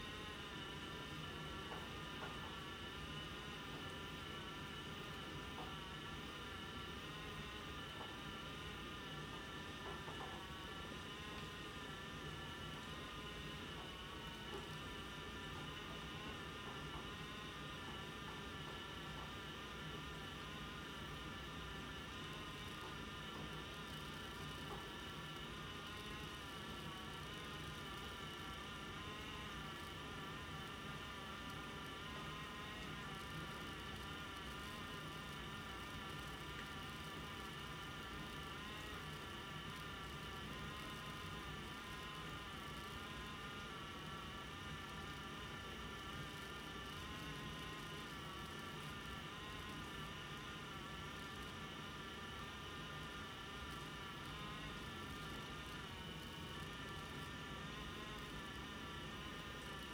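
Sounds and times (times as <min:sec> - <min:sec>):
high buzzing whine: 0:00.0 - 0:59.9
steady background hum: 0:00.0 - 0:59.9.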